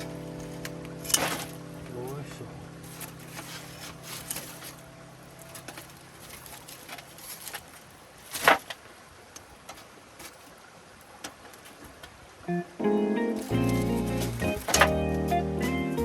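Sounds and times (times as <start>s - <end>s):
wood fire crackling: 0.0s - 12.4s, 13.2s - 16.0s.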